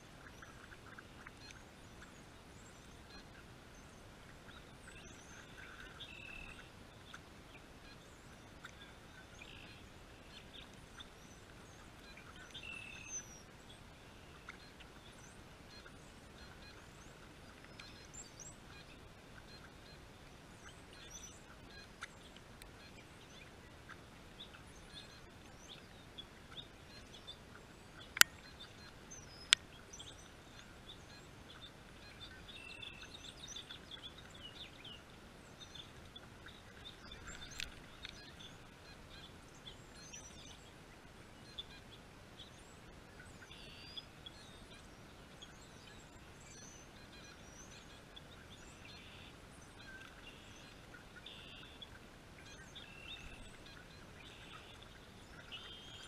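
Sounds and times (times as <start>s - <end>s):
wild birds chirping: 0.0s - 56.0s.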